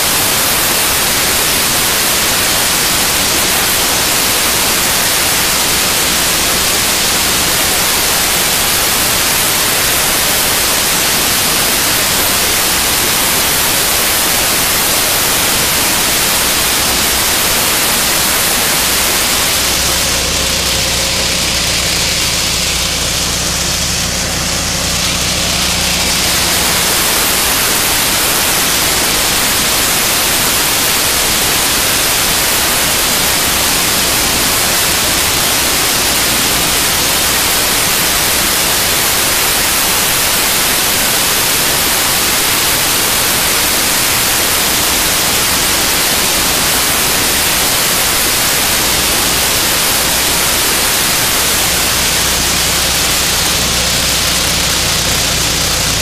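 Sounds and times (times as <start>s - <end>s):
combine harvester engine hum: 0.0s - 56.0s
loud steady hiss: 0.0s - 56.0s.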